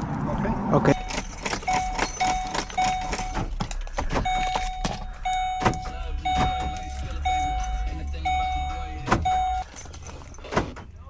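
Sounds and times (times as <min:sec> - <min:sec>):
car warning chime beeping: 0:00.4 - 0:10.8.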